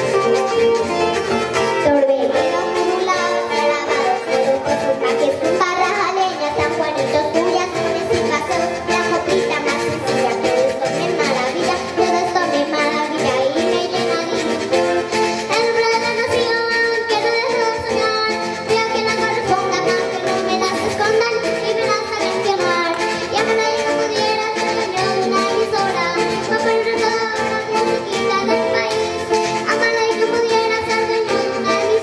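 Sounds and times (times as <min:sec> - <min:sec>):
child singing: 0:00.0 - 0:32.0
strummed string instruments: 0:00.0 - 0:32.0.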